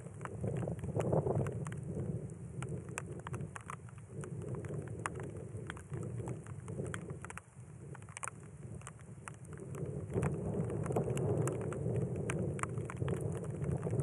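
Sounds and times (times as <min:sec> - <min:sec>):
raindrops ticking: 0:00.0 - 0:14.0.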